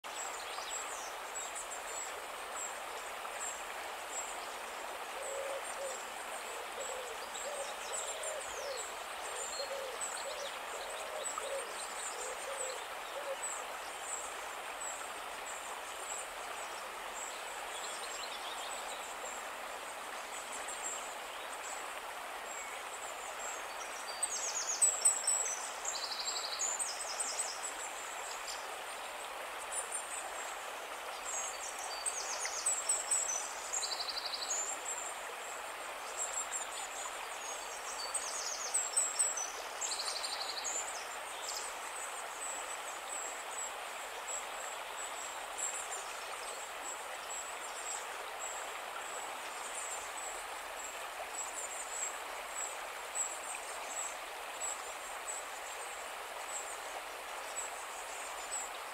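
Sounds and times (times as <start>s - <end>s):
flowing river water: 0.0s - 58.9s.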